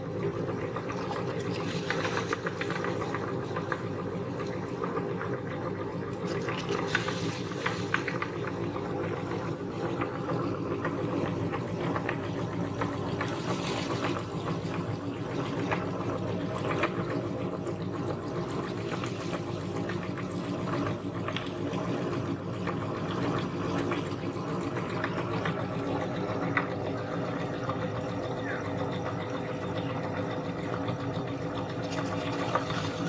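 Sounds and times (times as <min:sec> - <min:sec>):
meat grinder humming: 0:00.0 - 0:33.0.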